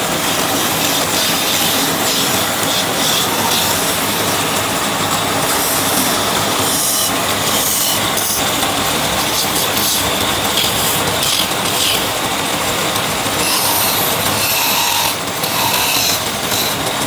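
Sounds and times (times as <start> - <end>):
gouge cutting wood hissing: 0.0 - 17.0
wood lathe running: 0.0 - 17.0.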